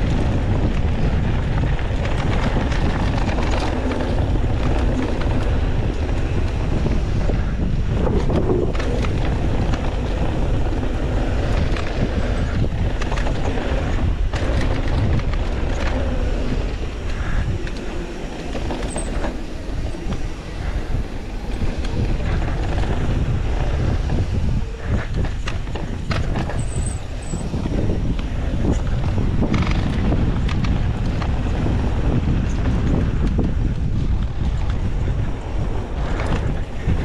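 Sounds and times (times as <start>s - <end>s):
bike rattling and knocking: 0.0s - 37.0s
bike tyres rumbling on dirt: 0.0s - 37.0s
wind buffeting microphone: 0.0s - 37.0s.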